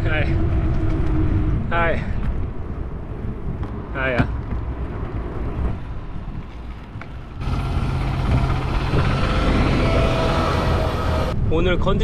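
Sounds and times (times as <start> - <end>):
bicycle tyre rumble: 0.0 - 11.6
wind noise: 0.0 - 12.0.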